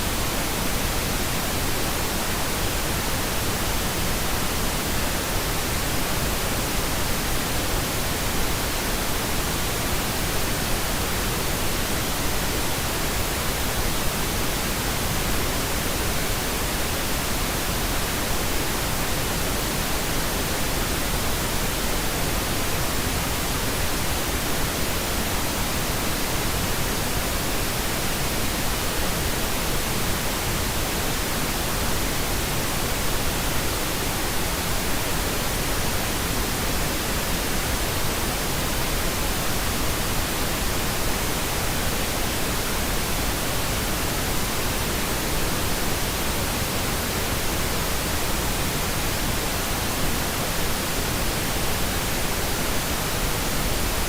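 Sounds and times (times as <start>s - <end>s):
steady white noise: 0.0s - 54.0s.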